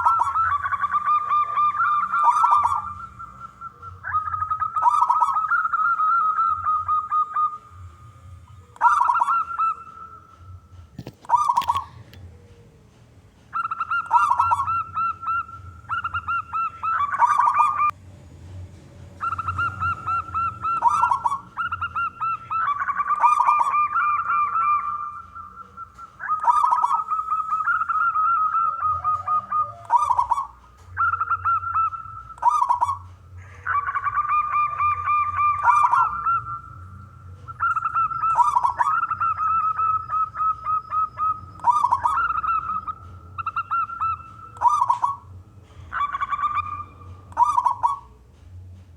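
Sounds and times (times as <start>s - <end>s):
dove rolling coos: 0.0s - 18.0s, 19.2s - 48.2s.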